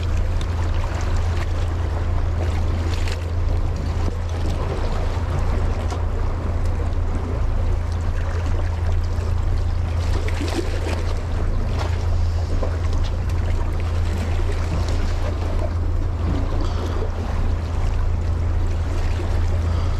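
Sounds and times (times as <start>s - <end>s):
water: 0.0s - 19.9s
wind: 0.0s - 19.9s.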